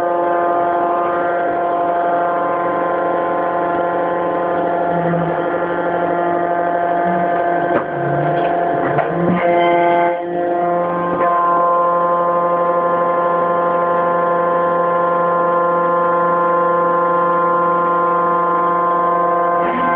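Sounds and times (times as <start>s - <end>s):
hydraulic power unit droning hum: 0.0s - 19.9s.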